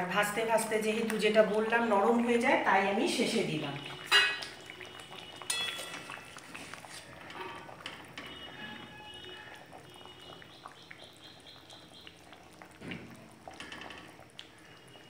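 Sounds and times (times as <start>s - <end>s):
curry bubbling in a wok: 0.0s - 15.0s.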